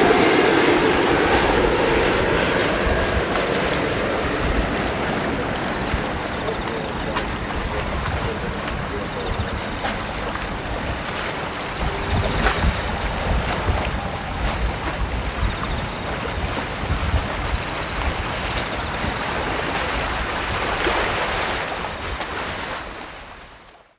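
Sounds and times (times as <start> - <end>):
jet airliner engines rushing: 0.0 - 22.3
wind buffeting microphone: 0.0 - 23.5.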